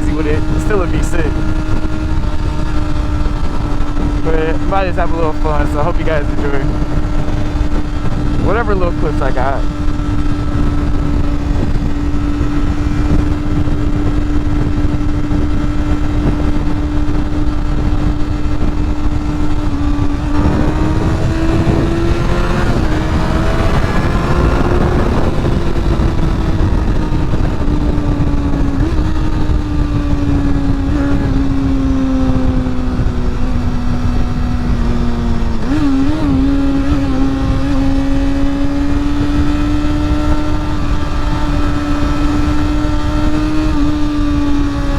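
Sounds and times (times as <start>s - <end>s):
motorcycle engine running: 0.0s - 44.9s
wind and road rush: 0.0s - 44.9s.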